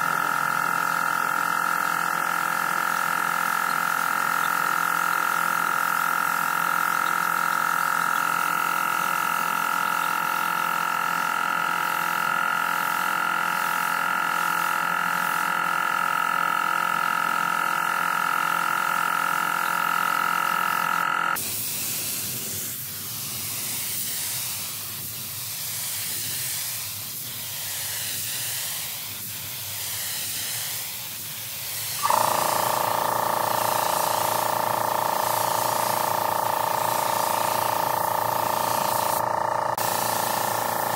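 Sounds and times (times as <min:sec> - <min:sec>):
spray gun hissing: 0:01.4 - 0:15.7, 0:21.4 - 0:40.9.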